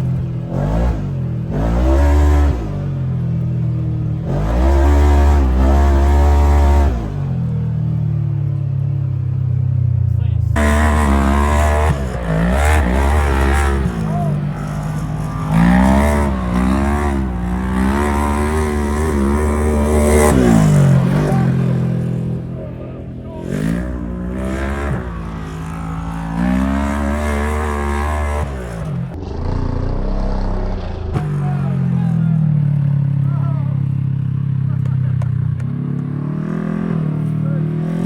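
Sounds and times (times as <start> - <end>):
engine revving: 0.0 - 38.0.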